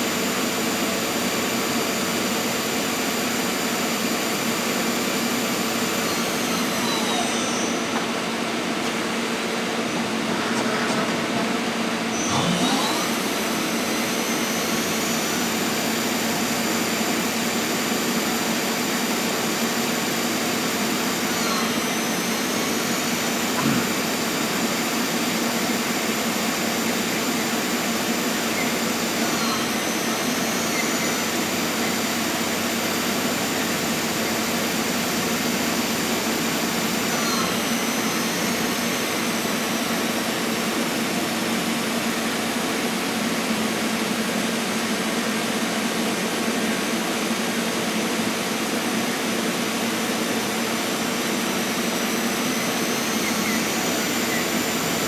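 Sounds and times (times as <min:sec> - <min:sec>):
lathe mechanical whir: 0:00.0 - 0:55.0.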